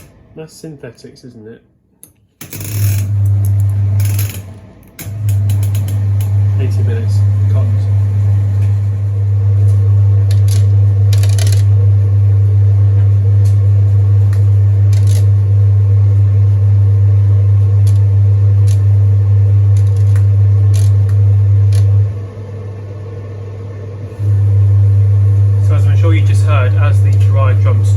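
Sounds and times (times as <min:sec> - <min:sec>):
tumble dryer motor hum: 0:00.0 - 0:01.2, 0:02.4 - 0:27.9
blower fan running: 0:00.0 - 0:27.9.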